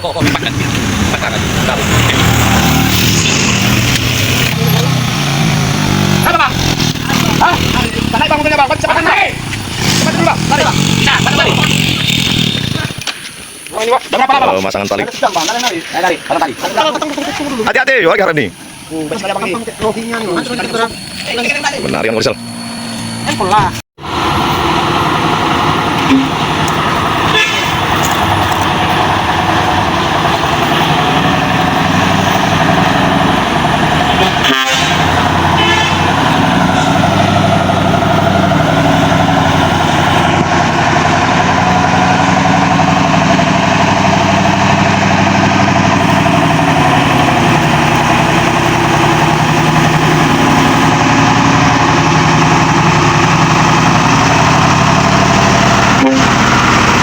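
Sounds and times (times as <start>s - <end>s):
heavy truck engine running: 0.0s - 13.6s, 16.0s - 57.0s.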